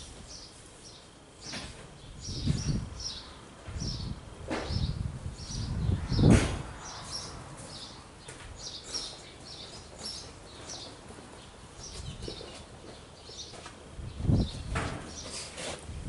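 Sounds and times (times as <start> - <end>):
small birds chirping: 0.0 - 15.6.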